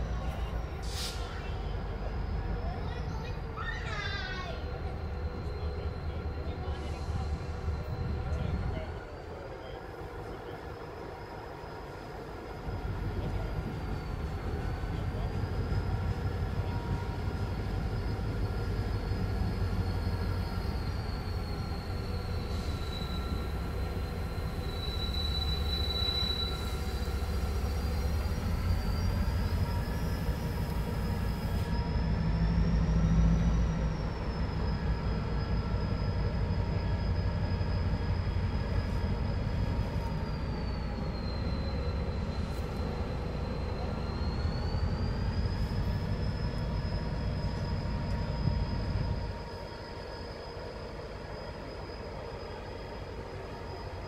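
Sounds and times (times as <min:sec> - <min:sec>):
high wheel squeal: 0:00.0 - 0:54.0
train rumble: 0:00.0 - 0:54.0.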